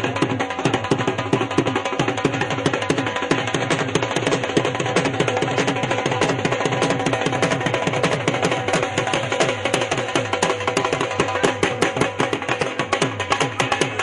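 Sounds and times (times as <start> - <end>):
fast hand-drum music: 0.0 - 14.0.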